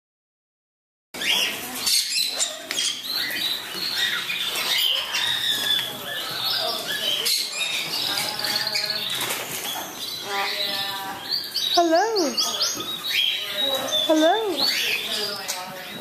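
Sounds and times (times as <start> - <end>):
birds chirping and squawking: 1.2 - 16.0.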